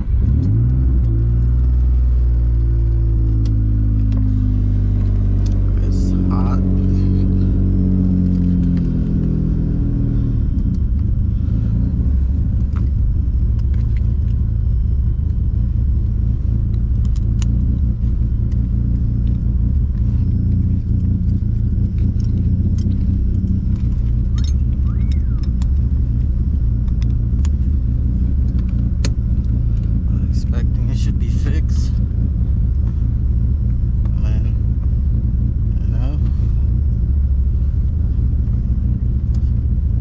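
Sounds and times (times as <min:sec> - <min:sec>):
car engine droning at low revs: 0:00.0 - 0:40.0.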